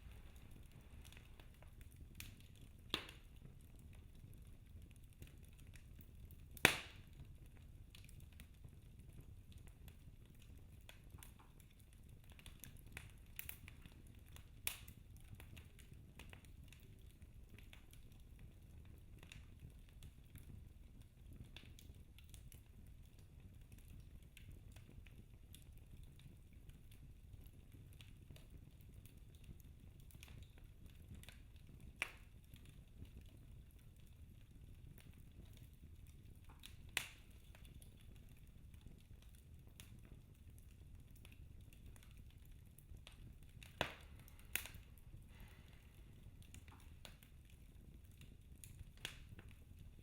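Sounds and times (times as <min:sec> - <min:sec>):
wood fire burning and crackling: 0:00.0 - 0:50.0.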